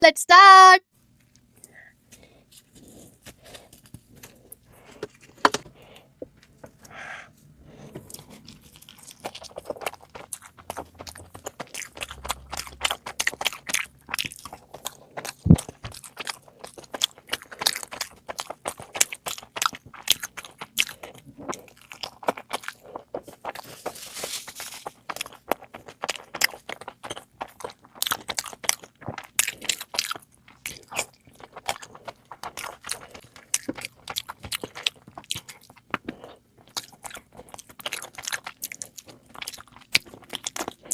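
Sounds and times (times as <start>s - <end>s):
person chewing and crunching: 1.2s - 6.1s, 8.0s - 40.9s.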